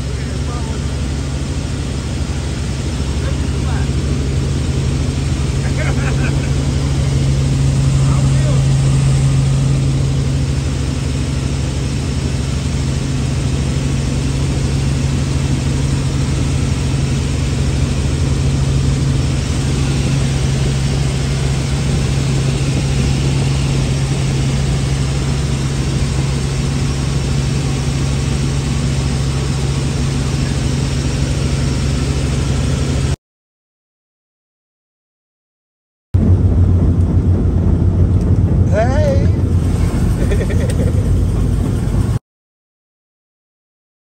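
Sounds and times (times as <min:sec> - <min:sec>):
helicopter cabin drone: 0:00.0 - 0:33.2, 0:36.2 - 0:42.2.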